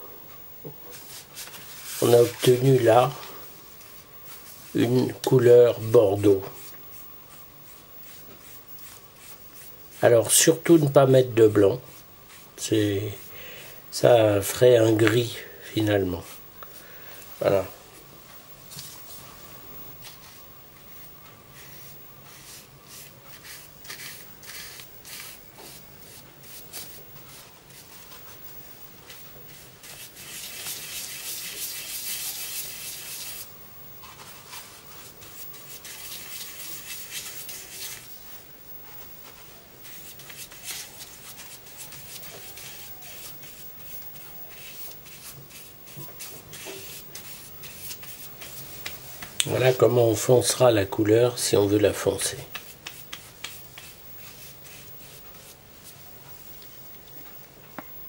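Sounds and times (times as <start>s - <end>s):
paintbrush scrubbing paint on paper: 0.9s - 16.4s, 20.0s - 56.1s.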